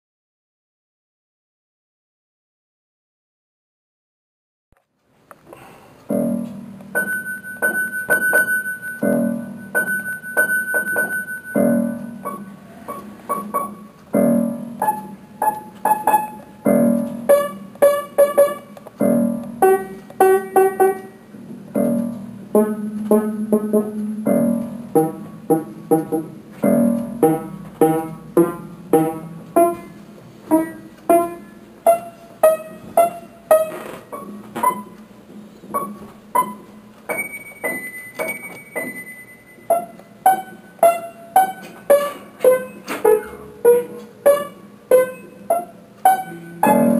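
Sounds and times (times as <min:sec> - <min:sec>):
piano melody: 0:06.1 - 0:46.9.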